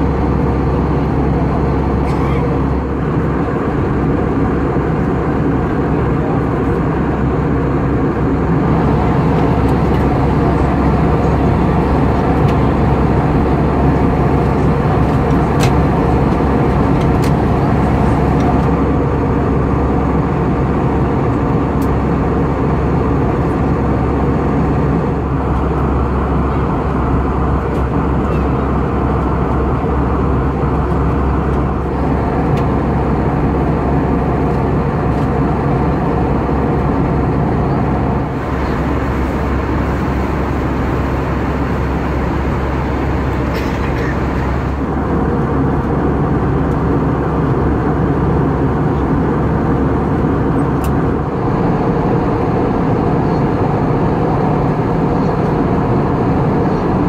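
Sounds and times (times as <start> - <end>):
jet cabin engine roar: 0.0 - 57.0.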